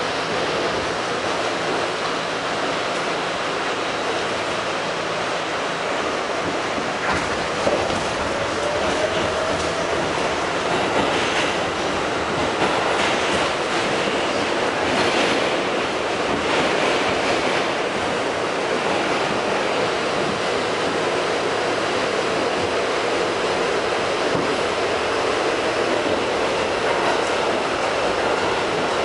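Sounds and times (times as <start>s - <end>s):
subway car rail noise: 0.0s - 29.0s.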